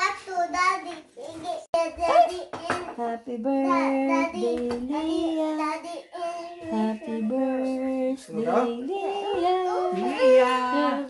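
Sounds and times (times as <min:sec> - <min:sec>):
pop song with singing: 0:02.0 - 0:11.0.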